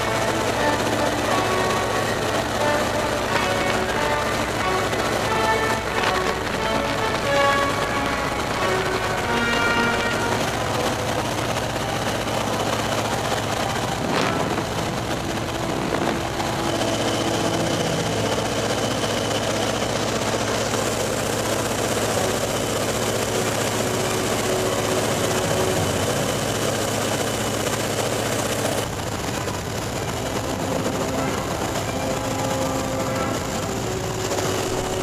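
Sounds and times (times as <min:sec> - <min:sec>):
propeller plane engine running: 0:00.0 - 0:35.0.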